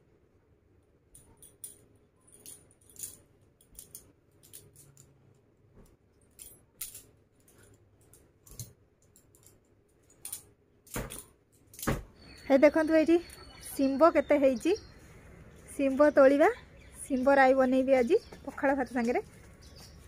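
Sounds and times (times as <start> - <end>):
bangles clinking: 1.0 - 20.0.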